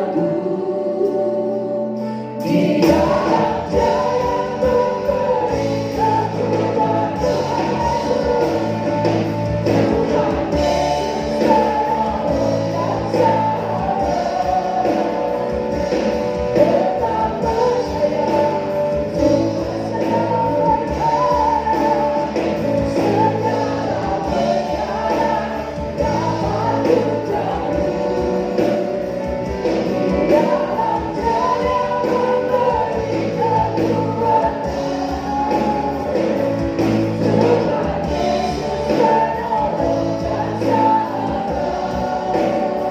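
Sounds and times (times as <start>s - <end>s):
band accompaniment: 0.0s - 42.9s
choir singing worship song: 0.0s - 42.9s.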